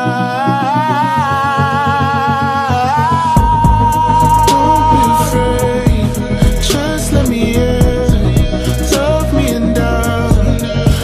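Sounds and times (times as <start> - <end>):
deep bass line: 0.0 - 11.0
song with long held note: 0.0 - 11.0.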